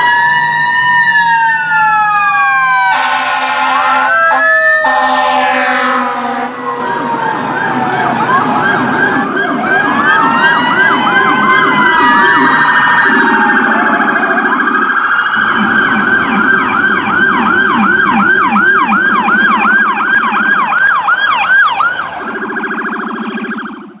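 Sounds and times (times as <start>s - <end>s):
electronic siren wailing and yelping: 0.0s - 24.0s.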